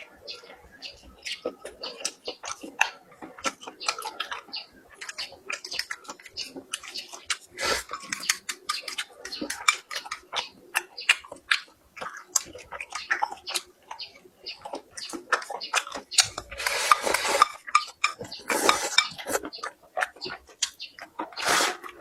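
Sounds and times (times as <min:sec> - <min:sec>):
person chewing noisily: 0:00.0 - 0:22.0.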